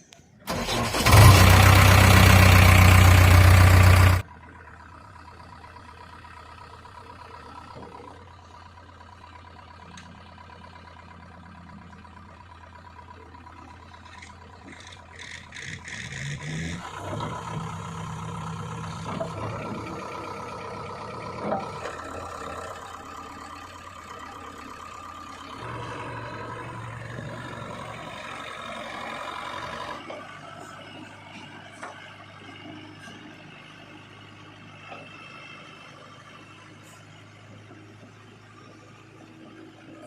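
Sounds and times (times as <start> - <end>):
heavy machinery diesel engine: 0.0 - 40.0.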